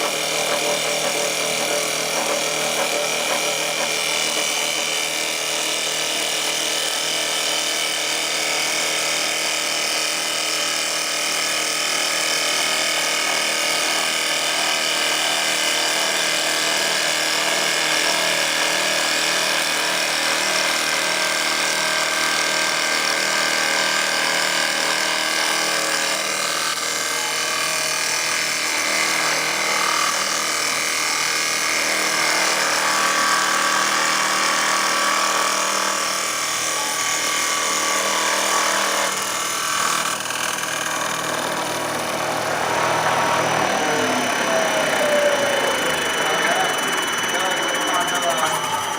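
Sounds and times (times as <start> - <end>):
wood cutting noise: 0.0 - 48.9
wood lathe running: 0.0 - 48.9.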